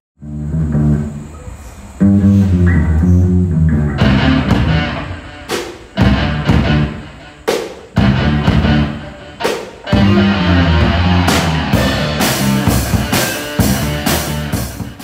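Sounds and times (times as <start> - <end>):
background music with guitar: 0.2 - 15.0
drums keeping a beat: 2.0 - 15.0.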